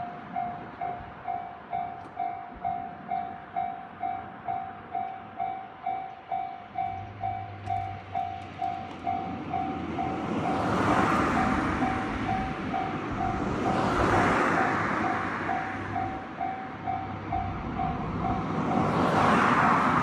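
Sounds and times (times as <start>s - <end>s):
approaching train noise: 0.0s - 20.0s.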